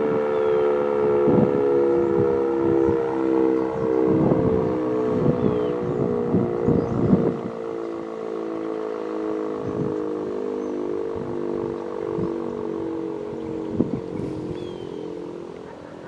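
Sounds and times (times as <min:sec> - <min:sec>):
low buffeting: 0:00.0 - 0:16.0
warning siren steady tones: 0:00.0 - 0:16.0.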